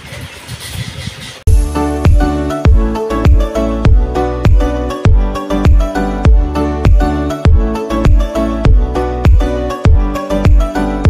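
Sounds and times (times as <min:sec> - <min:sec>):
kick drum: 0:01.5 - 0:10.7
electronic music: 0:01.5 - 0:11.0.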